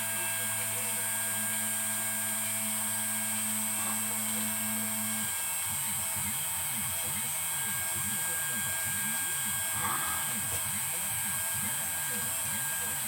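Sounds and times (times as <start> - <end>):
stepper motors humming: 0.1 - 13.0.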